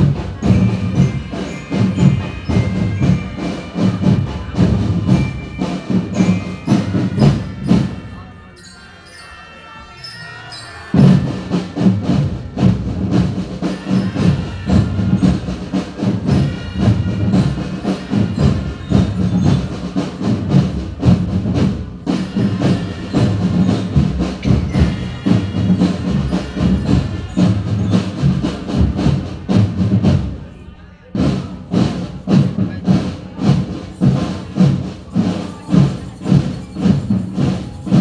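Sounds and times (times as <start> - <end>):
snare and bass drums beating: 0.0 - 8.1, 11.0 - 30.4, 31.2 - 38.0
marching drum band playing: 0.0 - 8.3, 10.9 - 38.0.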